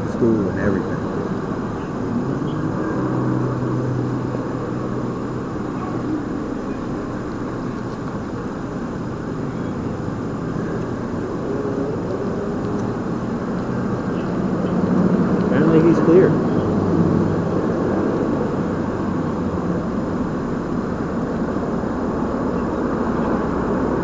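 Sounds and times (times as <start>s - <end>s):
motor vehicle engine rumble: 0.0s - 24.0s.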